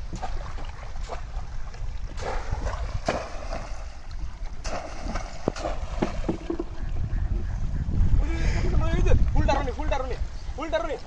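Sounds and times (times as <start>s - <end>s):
water splashing and sloshing: 0.0s - 11.0s
wind rumble on microphone: 0.0s - 11.0s.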